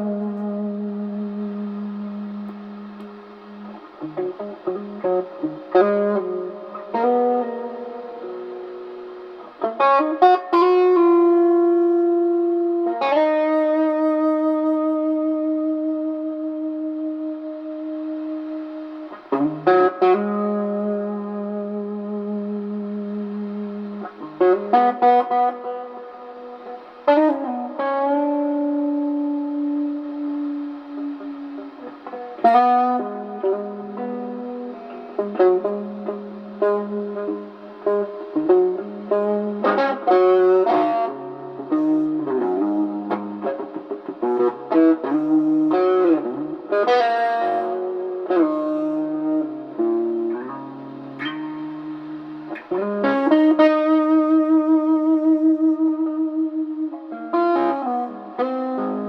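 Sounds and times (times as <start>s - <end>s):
electric guitar with effects: 0.0s - 59.0s.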